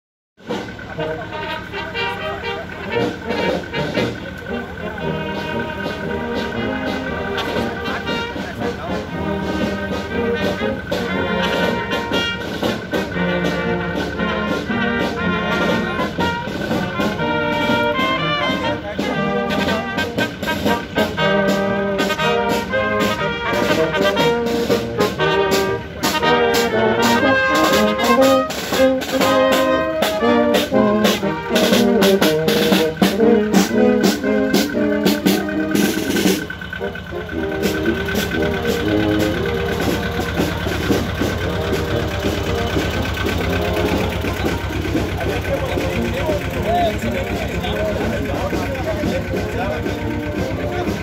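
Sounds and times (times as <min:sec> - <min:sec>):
brass band playing: 0:00.4 - 0:51.0.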